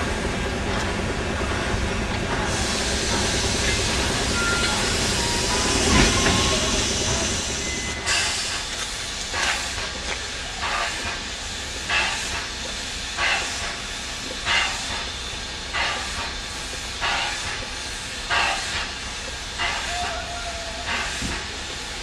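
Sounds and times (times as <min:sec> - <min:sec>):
steam hissing: 0:00.0 - 0:22.0
steam locomotive puffing: 0:01.4 - 0:22.0.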